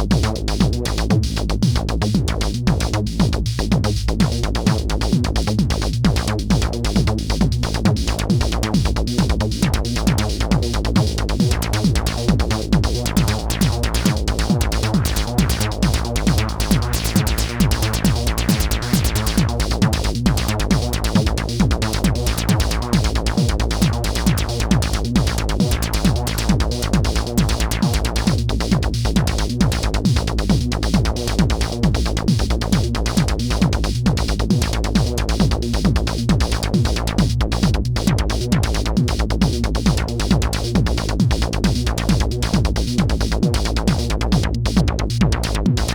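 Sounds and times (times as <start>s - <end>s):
techno beat with synth tones: 0.0s - 45.9s.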